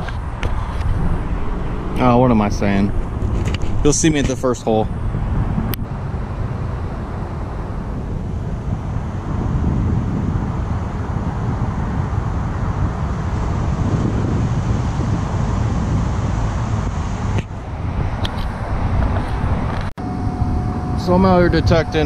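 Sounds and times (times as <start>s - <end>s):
road traffic rumble: 0.0s - 22.0s
wind on microphone: 0.0s - 22.0s.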